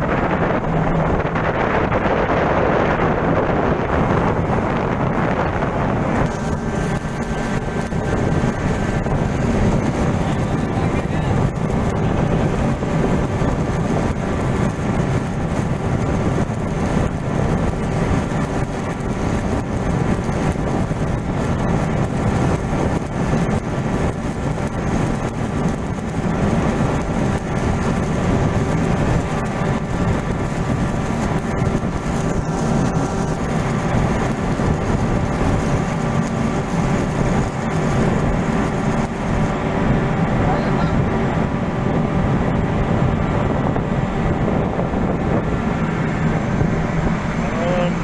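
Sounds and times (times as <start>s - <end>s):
engine drone: 0.0s - 48.0s.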